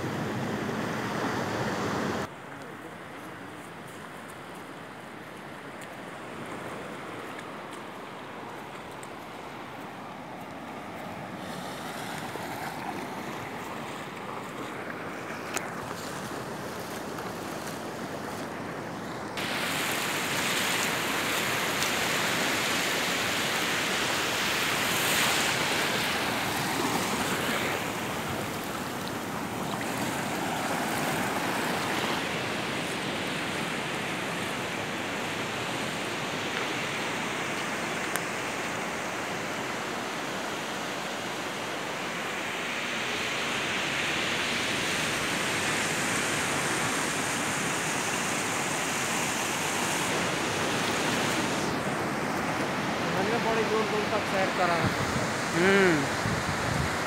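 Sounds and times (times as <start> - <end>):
small waves washing over sand: 0.0 - 57.0.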